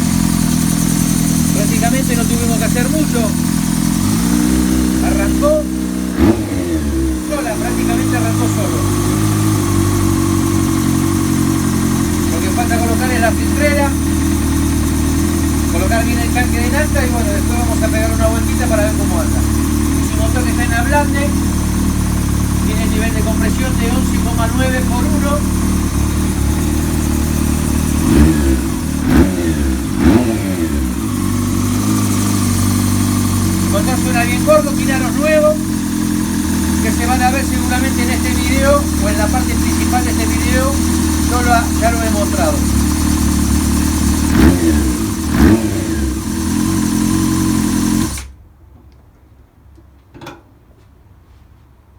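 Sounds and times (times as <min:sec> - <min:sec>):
motorcycle engine idling and revving: 0:00.0 - 0:48.4.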